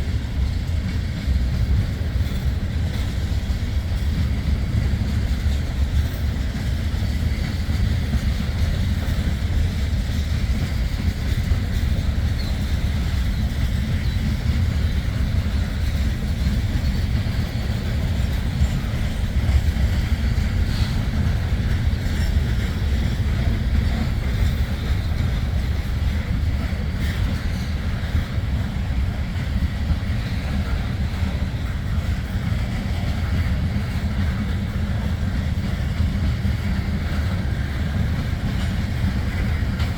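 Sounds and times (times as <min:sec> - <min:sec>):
freight train rolling by: 0:00.0 - 0:39.9.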